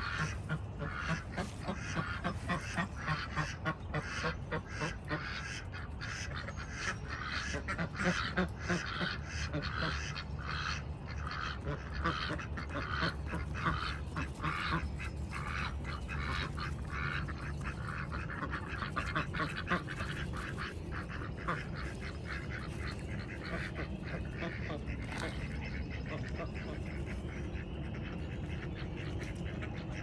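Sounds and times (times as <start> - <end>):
ducks quacking: 0.0 - 30.0.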